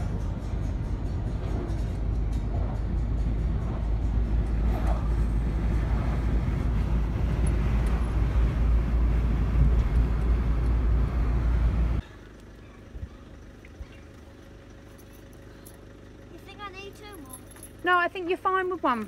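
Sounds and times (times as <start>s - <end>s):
car road noise: 0.0s - 19.0s.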